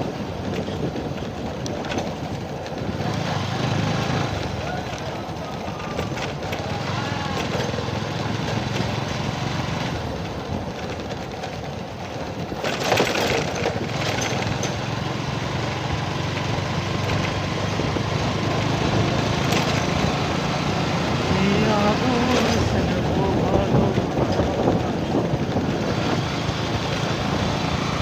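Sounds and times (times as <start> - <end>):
small engine running: 2.8 - 28.0.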